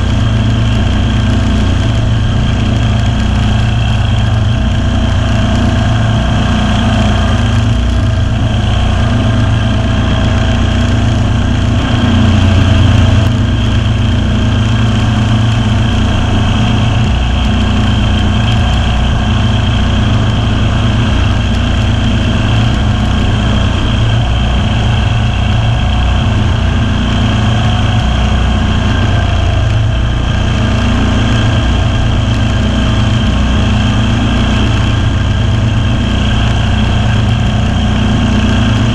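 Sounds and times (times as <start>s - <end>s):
mower engine running: 0.0s - 38.9s.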